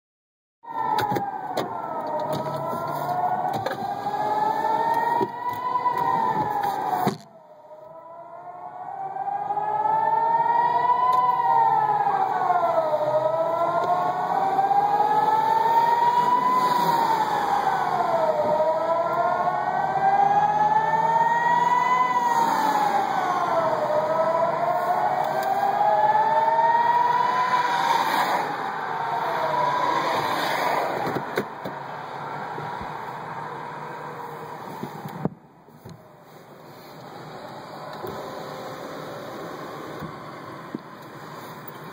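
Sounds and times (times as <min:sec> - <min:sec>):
warning sirens wailing: 0:00.6 - 0:41.9.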